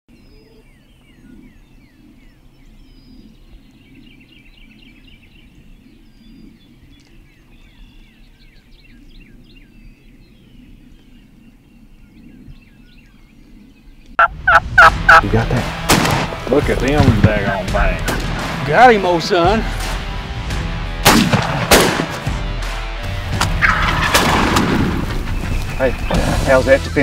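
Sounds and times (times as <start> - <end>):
songbirds chirping: 0.1 - 27.0.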